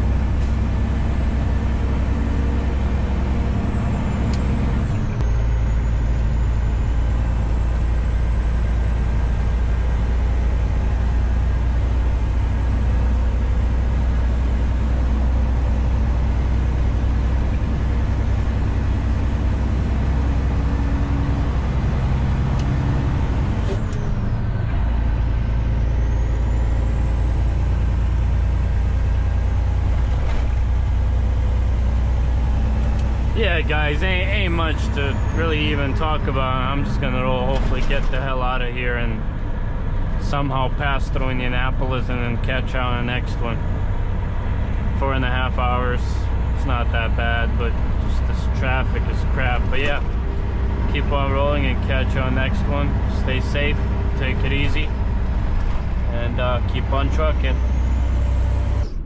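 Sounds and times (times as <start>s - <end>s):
road noise: 0.0s - 59.0s
truck diesel engine rumble: 0.0s - 59.0s.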